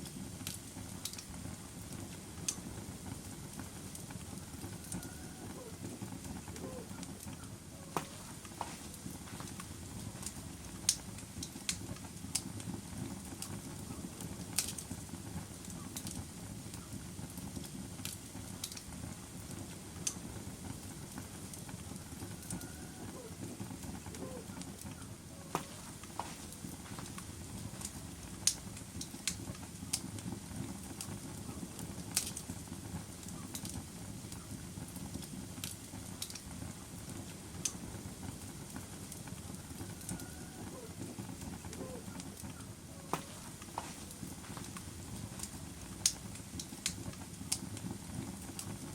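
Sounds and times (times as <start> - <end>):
log fire crackling and popping: 0.0 - 48.9
low rumble of burning: 0.0 - 48.9.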